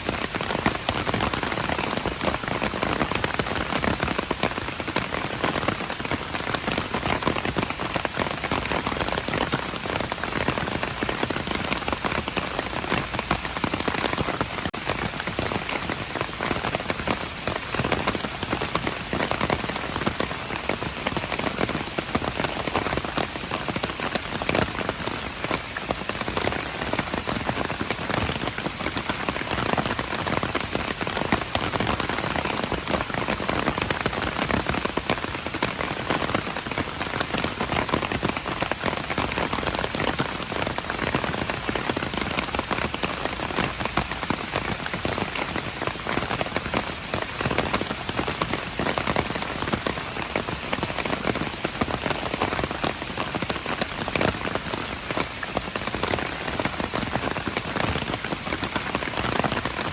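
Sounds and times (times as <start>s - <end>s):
rain on hard surfaces: 0.0s - 59.9s.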